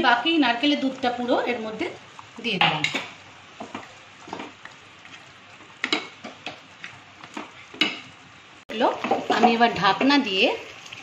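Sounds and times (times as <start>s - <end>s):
curry simmering sizzle: 0.0s - 11.0s.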